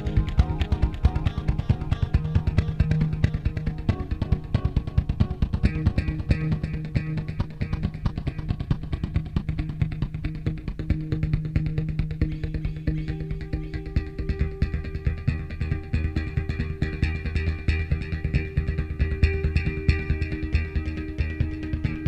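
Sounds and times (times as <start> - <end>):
guitar and bass music: 0.0 - 22.0.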